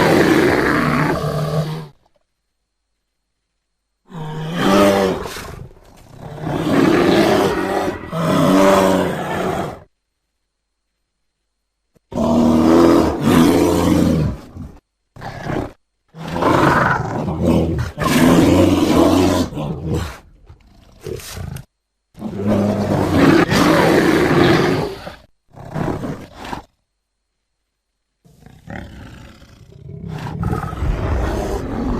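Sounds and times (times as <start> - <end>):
bear roaring: 0.0 - 2.0, 4.1 - 9.9, 12.1 - 26.7, 28.3 - 31.9
bear growling: 0.0 - 2.1, 4.1 - 9.9, 12.1 - 26.7, 28.3 - 31.9.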